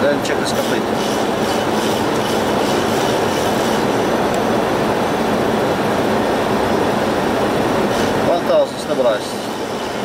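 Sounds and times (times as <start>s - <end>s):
air-conditioning: 0.0s - 10.0s.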